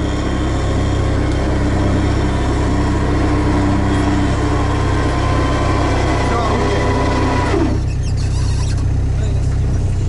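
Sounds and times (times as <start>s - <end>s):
vehicle engine running from inside cab: 0.0s - 10.0s.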